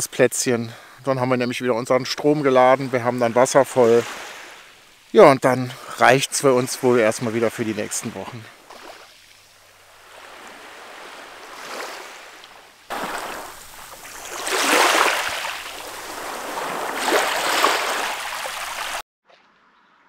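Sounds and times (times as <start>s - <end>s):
sea waves washing onto beach: 1.9s - 19.0s.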